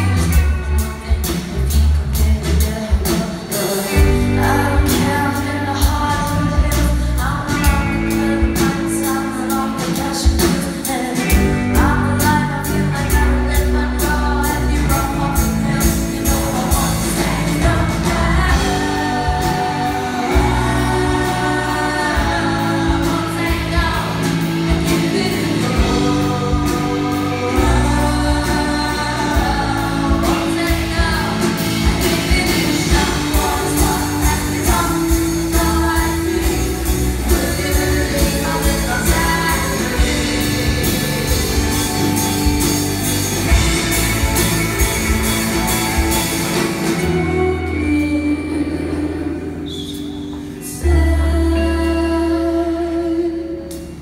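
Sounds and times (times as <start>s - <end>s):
live rock band playing: 0.0s - 54.0s
woman singing lead: 0.0s - 54.0s.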